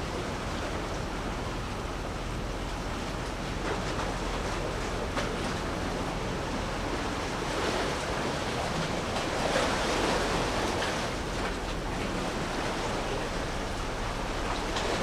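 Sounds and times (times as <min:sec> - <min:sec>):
sea water washing: 0:00.0 - 0:15.0.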